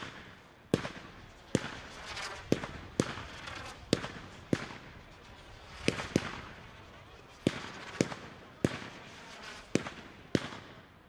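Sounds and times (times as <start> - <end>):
firework bangs: 0.0 - 10.9
fizzing crackle of fireworks: 0.0 - 11.0.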